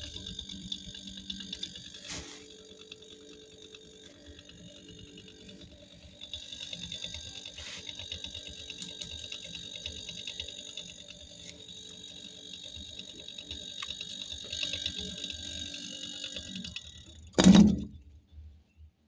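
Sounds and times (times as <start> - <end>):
refrigerator whine and rattle: 0.0 - 19.0.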